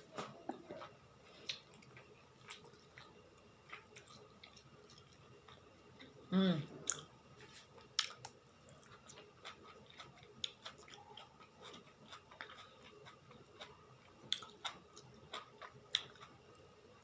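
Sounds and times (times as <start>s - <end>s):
soft chewing: 0.0s - 16.9s.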